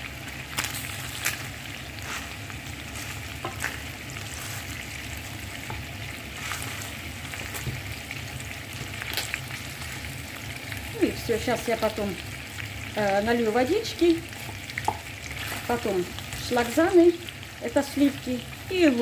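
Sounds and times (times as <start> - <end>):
meat sizzling in oil: 0.0 - 19.0
oil popping and crackling: 0.0 - 19.0.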